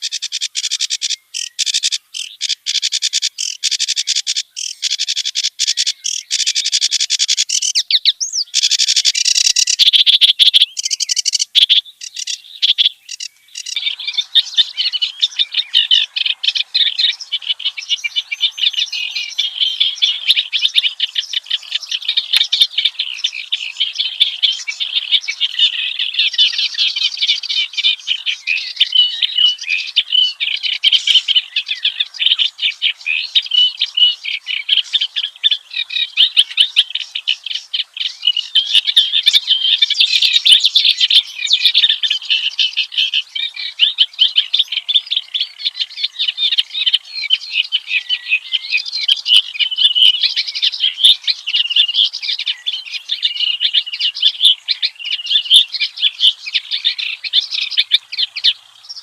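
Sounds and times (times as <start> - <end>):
warbler singing chattering song: 0.0 - 59.0.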